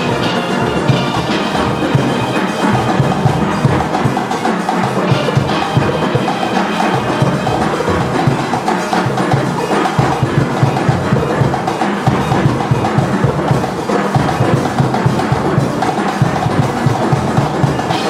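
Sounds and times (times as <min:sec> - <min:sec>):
drum kit and percussion: 0:00.0 - 0:18.0
steel pans playing: 0:00.0 - 0:18.0.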